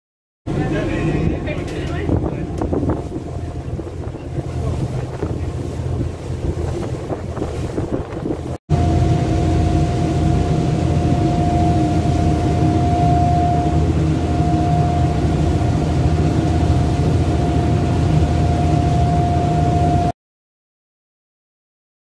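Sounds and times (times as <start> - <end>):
diesel engine humming: 0.5 - 20.1
high whine: 0.5 - 20.2.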